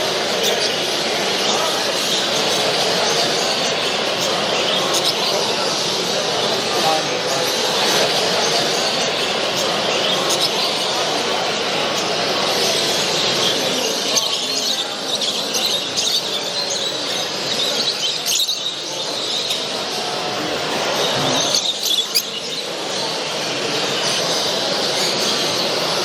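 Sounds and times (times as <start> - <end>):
birds chirping and squealing: 0.0 - 26.0
crowd murmur: 0.0 - 26.0.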